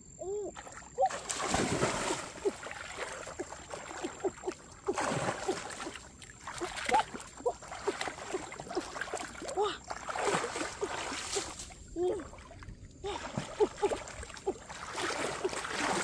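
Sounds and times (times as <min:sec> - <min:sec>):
water sloshing and dripping: 0:00.4 - 0:16.0
loud splashes in water: 0:00.6 - 0:16.0.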